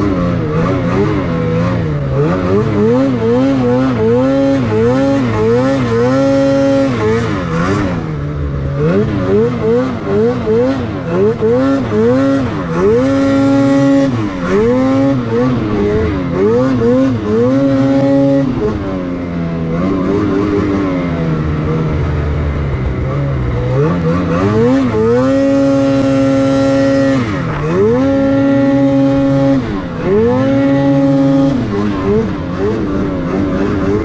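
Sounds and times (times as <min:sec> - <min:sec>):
snowmobile engine revving: 0:00.0 - 0:34.0.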